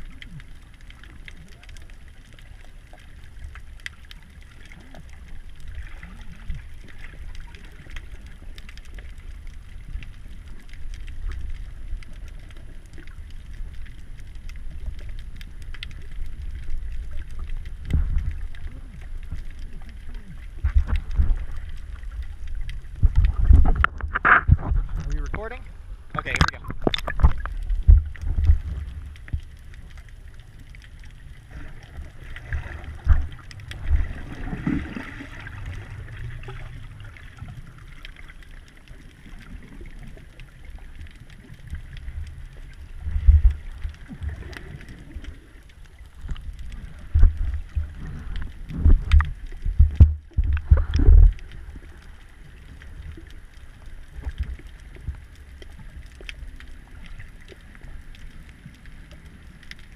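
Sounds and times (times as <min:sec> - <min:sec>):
low thumps of moving water: 0:00.0 - 0:59.9.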